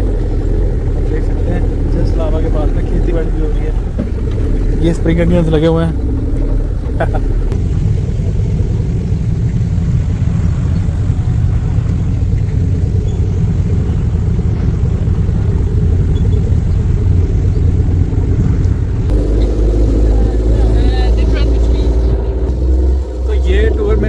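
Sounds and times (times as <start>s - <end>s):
vehicle rumbling over rough track: 0.0s - 24.0s.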